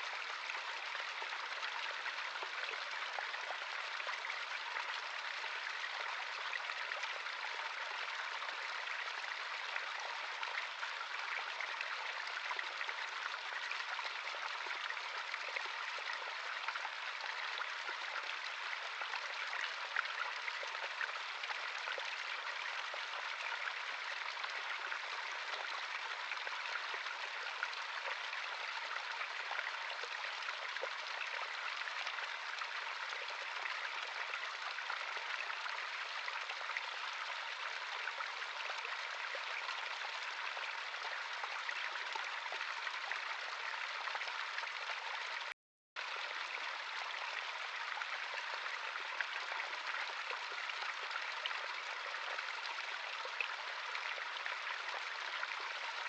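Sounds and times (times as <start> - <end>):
stream rushing and babbling: 0.0 - 56.0.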